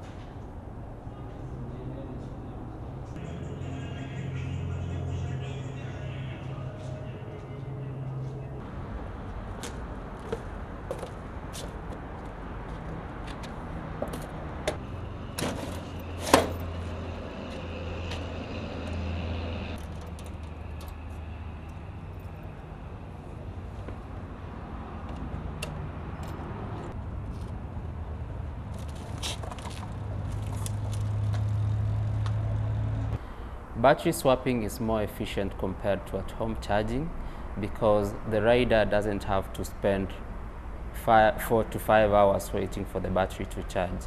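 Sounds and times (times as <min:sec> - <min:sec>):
street traffic hum: 0:00.0 - 0:44.0.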